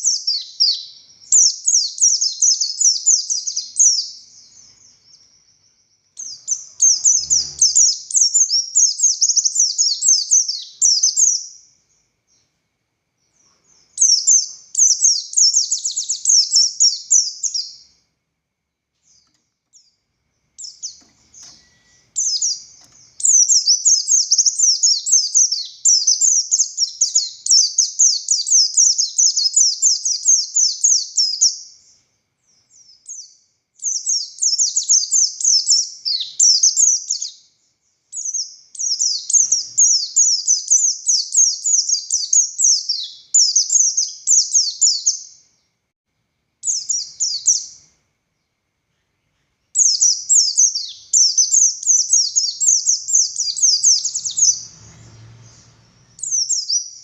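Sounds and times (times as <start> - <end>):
bird twittering: 0.0 - 12.4, 13.3 - 17.9, 20.6 - 31.9, 32.5 - 37.5, 38.1 - 45.4, 46.6 - 47.9, 49.0 - 57.0.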